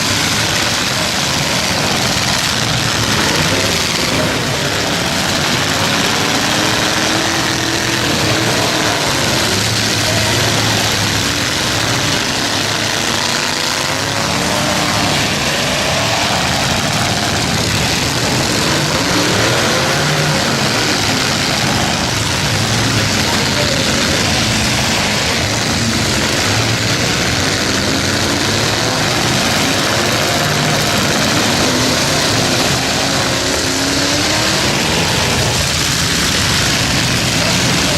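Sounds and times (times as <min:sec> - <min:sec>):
truck engines revving: 0:00.0 - 0:37.9.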